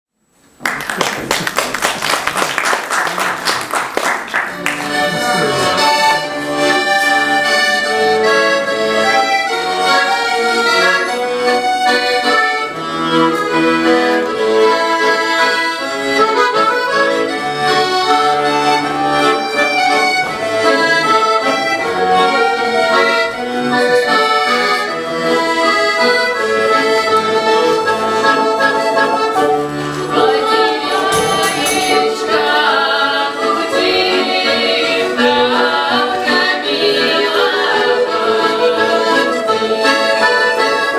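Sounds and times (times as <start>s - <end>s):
accordion playing folk tune: 4.2s - 40.9s.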